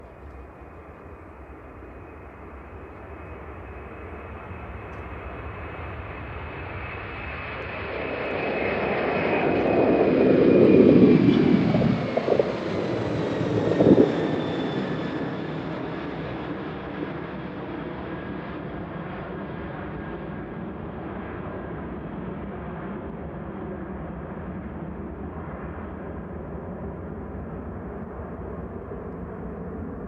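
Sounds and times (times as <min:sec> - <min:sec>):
jet engines at takeoff power: 0:00.0 - 0:30.0.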